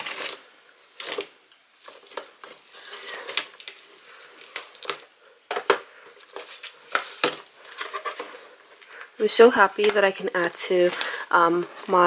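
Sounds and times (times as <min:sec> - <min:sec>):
plastic film crinkling and tearing: 0:00.0 - 0:12.0.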